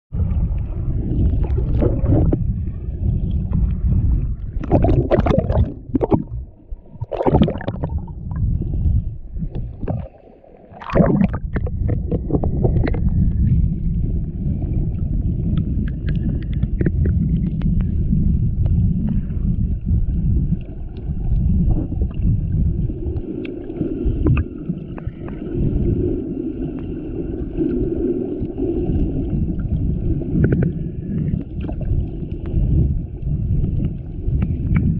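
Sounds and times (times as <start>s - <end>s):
underwater rumbling and sloshing: 0.1s - 34.9s
water splashes: 0.2s - 34.9s.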